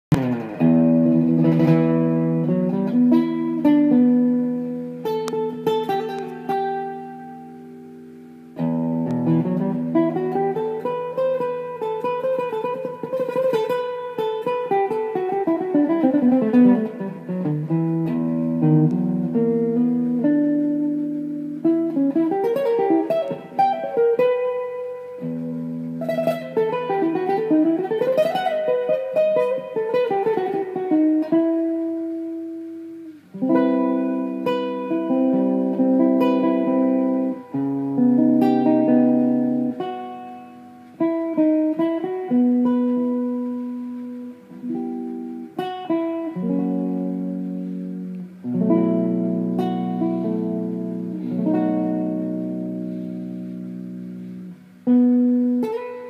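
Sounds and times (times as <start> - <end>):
nylon-string guitar playing: 0.1 - 56.0.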